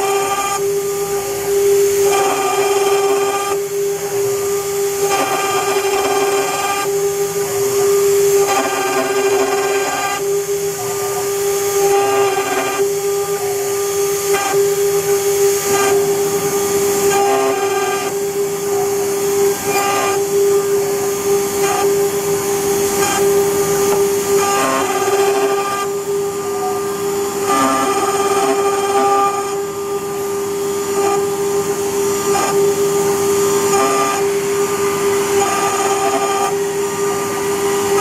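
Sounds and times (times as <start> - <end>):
router spindle whine: 0.0 - 38.0.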